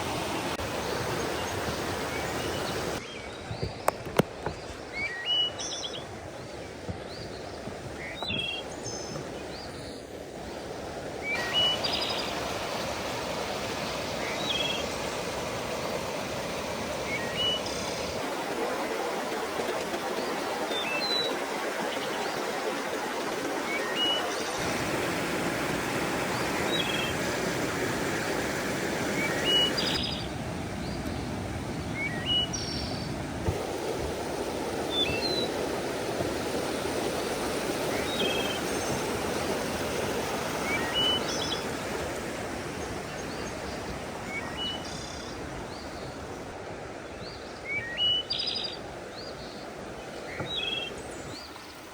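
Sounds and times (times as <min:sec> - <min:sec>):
mountain stream rushing: 0:00.0 - 0:51.9.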